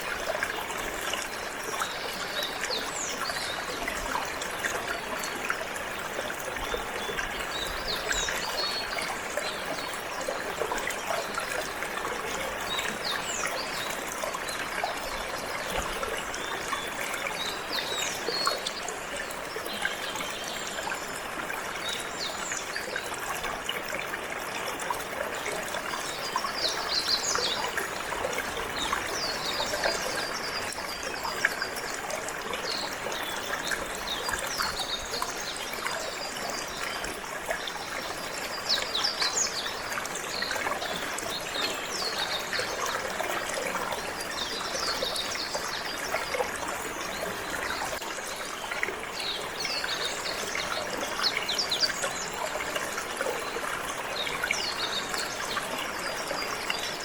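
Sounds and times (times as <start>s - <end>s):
water trickling and flowing: 0.0s - 57.0s.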